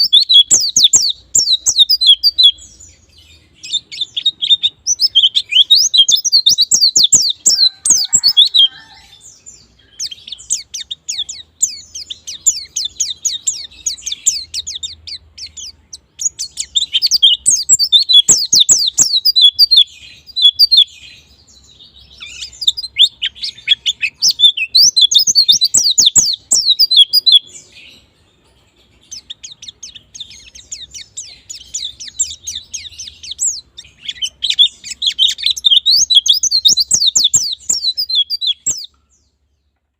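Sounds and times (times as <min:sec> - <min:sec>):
bird chirping and trilling: 0:00.0 - 0:39.7.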